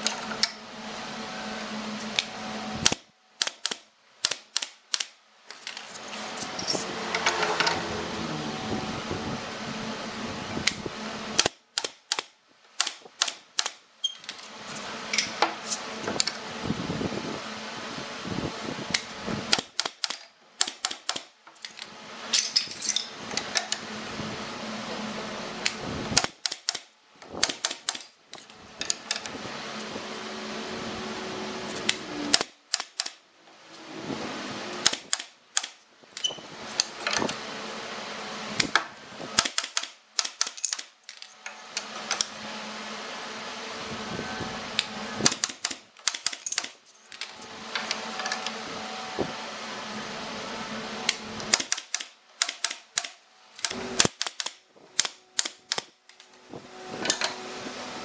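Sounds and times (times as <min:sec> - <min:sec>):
fan-like hum: 0:00.0 - 0:58.0.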